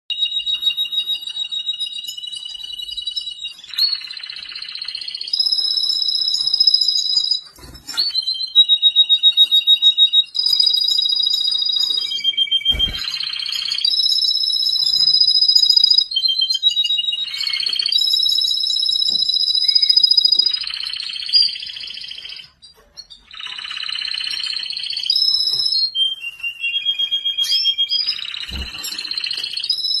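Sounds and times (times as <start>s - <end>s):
canary singing trills: 0.1s - 30.0s.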